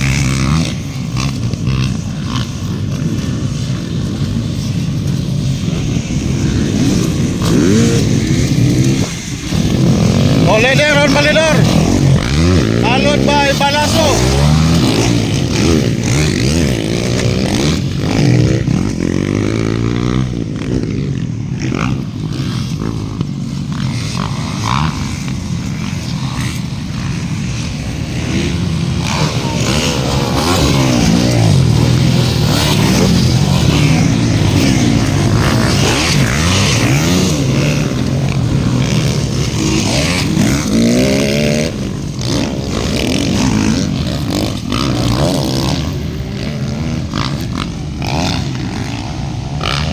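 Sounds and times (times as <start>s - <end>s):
motocross bikes revving: 0.0s - 49.9s.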